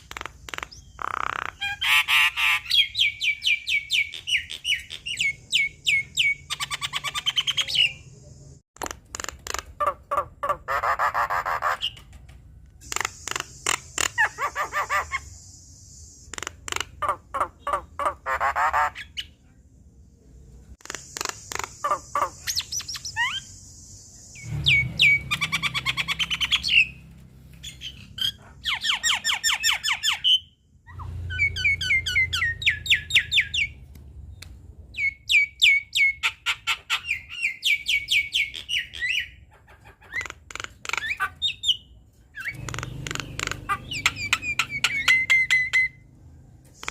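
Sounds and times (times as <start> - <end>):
myna bird singing: 0.0 - 46.9.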